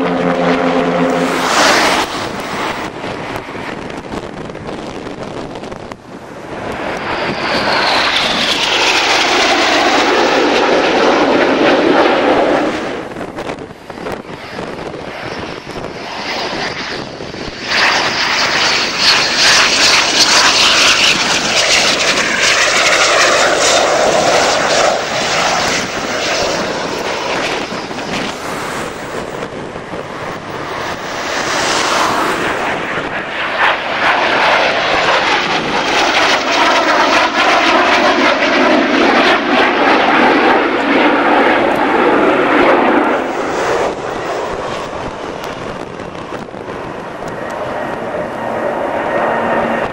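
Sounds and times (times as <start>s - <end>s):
aircraft engines running: 0.0s - 49.9s.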